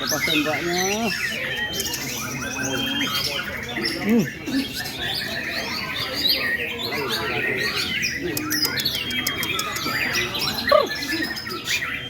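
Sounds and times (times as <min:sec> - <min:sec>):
chorus of caged songbirds: 0:00.0 - 0:12.0
songbird singing varied song: 0:00.0 - 0:12.0.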